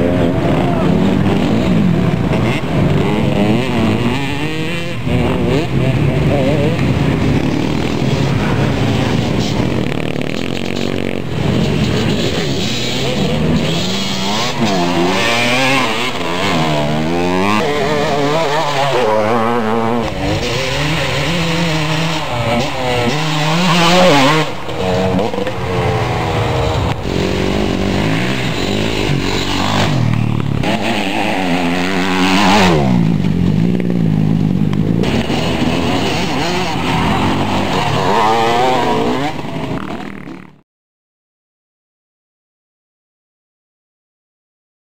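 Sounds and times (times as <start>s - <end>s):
motorcycle engines revving: 0.0s - 40.6s.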